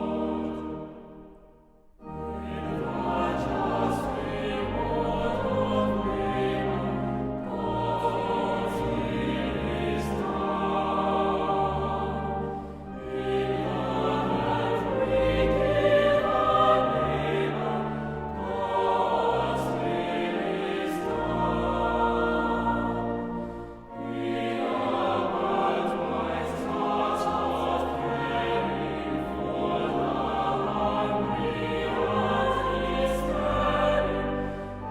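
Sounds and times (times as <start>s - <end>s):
choir singing: 0.0s - 34.9s.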